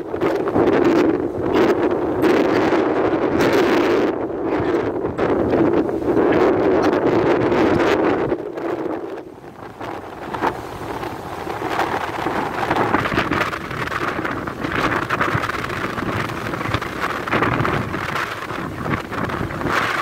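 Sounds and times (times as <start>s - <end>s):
sea breaking along ship hull: 0.0s - 20.0s
wind buffeting microphone: 0.0s - 20.0s.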